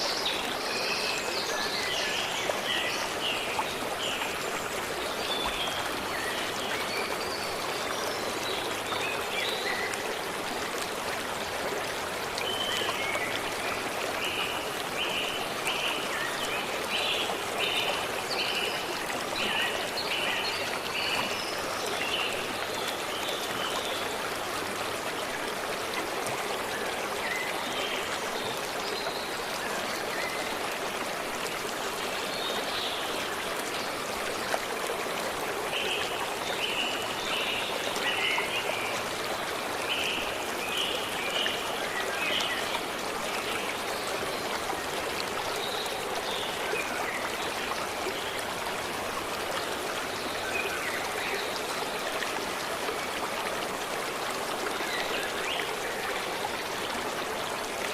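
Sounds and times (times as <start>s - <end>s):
stream water running: 0.0s - 57.9s.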